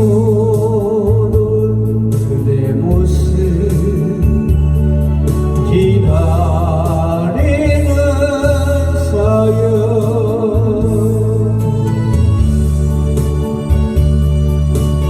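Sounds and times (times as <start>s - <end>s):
person singing with vibrato: 0.0s - 12.7s
electronic organ: 0.0s - 15.0s.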